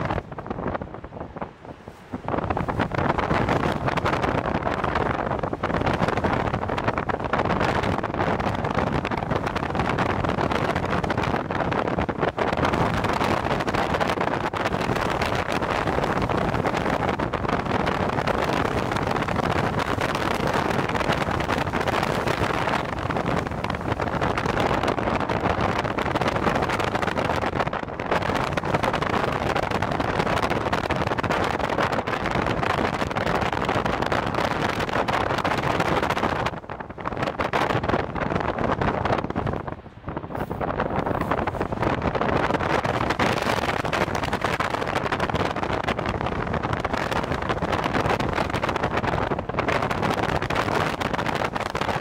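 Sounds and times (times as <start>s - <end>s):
gusty wind buffeting microphone: 0.0s - 52.0s.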